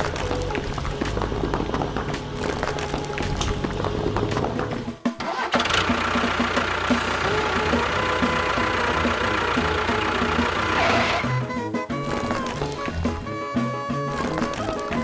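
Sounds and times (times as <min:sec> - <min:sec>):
engine starting and running: 0:00.0 - 0:13.3.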